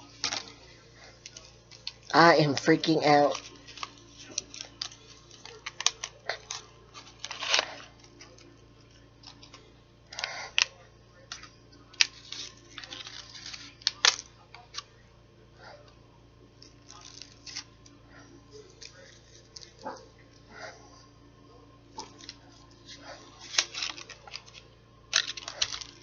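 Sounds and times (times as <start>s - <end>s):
wrapper crinkling: 0.0s - 14.9s, 16.6s - 20.4s, 21.9s - 26.0s.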